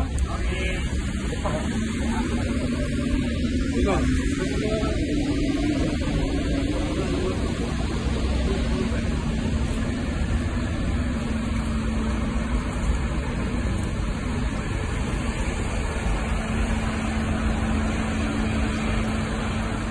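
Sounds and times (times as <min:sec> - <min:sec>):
vehicle engines idling: 0:00.0 - 0:19.9.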